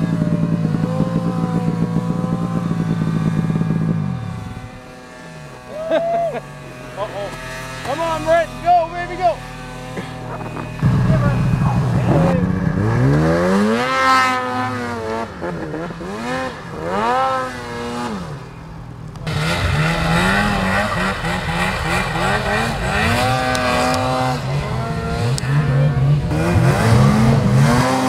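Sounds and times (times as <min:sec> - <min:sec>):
snowmobile engines revving: 0:00.0 - 0:28.0.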